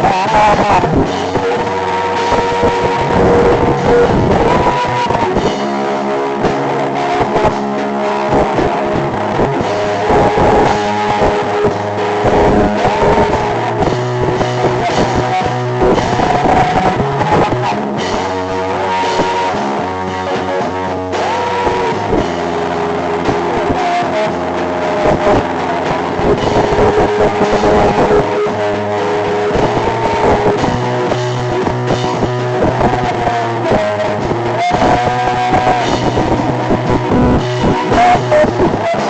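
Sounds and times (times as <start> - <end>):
bass and drums: 0.0 - 39.0
gliding guitar melody: 0.0 - 39.0.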